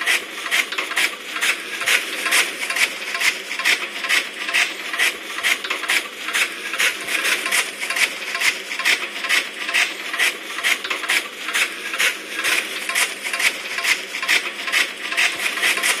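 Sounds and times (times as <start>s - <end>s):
chaff cutter blades chopping grass: 0.0s - 16.0s.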